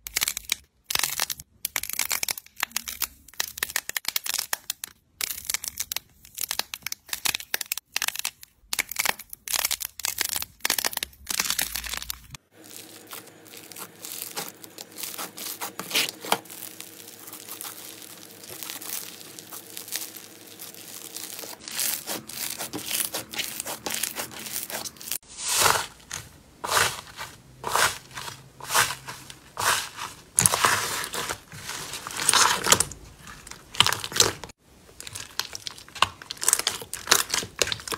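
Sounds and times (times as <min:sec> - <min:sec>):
slime crust cracking: 0:00.1 - 0:25.2, 0:32.1 - 0:37.9
fine crackling of slime: 0:00.2 - 0:37.9.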